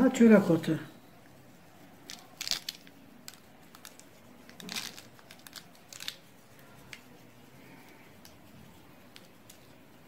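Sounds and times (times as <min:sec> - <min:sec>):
seeds rustling and crackling: 0:01.6 - 0:10.0.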